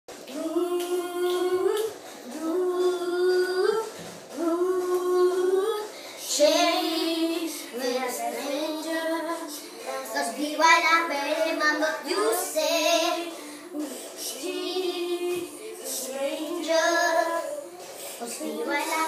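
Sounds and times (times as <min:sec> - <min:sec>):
girl singing: 0:00.2 - 0:19.0.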